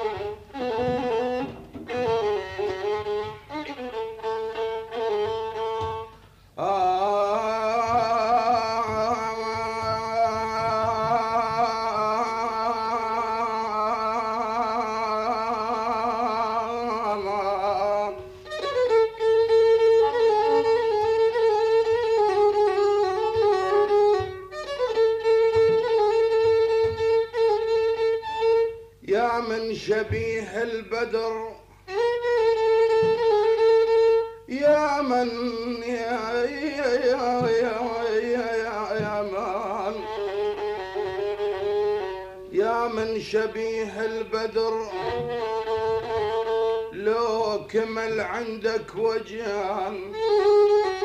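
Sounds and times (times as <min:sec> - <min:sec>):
violin melody: 0:00.0 - 0:51.0.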